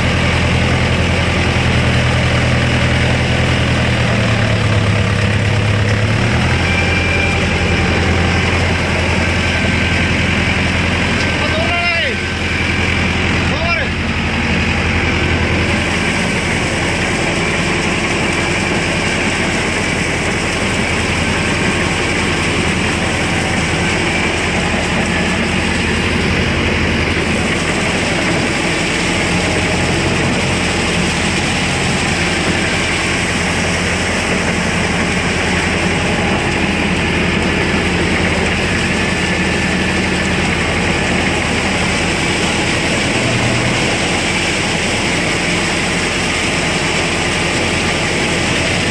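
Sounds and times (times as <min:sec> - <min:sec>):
blades churning through mud: 0:00.0 - 0:48.9
tractor diesel engine under load: 0:00.0 - 0:48.9.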